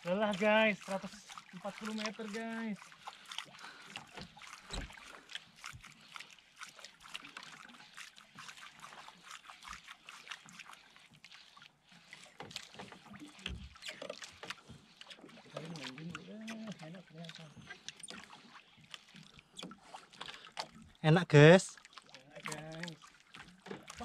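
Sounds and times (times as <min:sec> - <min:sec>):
small clicks and splashes: 0:00.0 - 0:24.0
water lapping against boat hull: 0:00.0 - 0:24.0.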